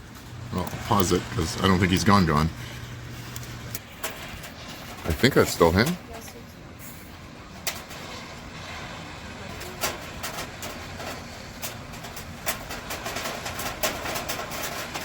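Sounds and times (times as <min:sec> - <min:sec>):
traffic on wet road: 0:00.0 - 0:15.0.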